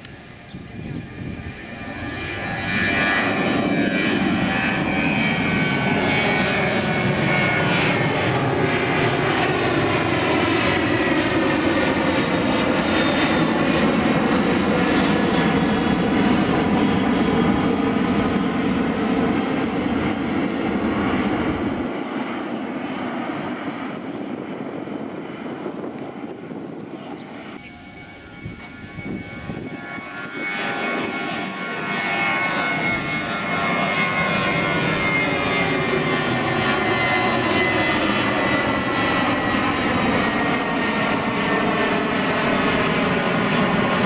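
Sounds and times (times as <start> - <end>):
airliner jet roar: 0.0 - 44.0.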